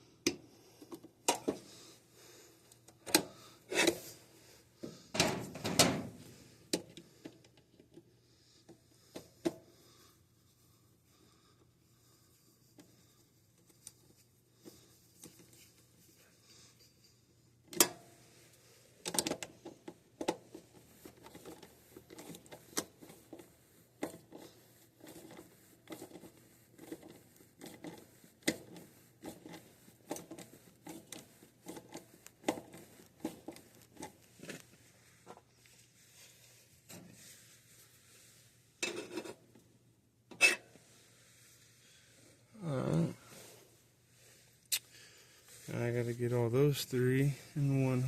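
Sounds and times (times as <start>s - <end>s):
wires rustling against metal: 0.0s - 8.1s, 9.8s - 48.0s.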